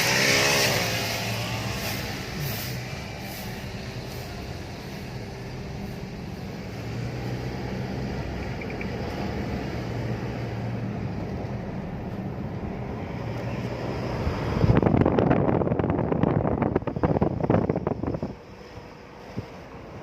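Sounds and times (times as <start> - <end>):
diesel engine running: 0.0 - 20.0
road noise: 0.0 - 20.0.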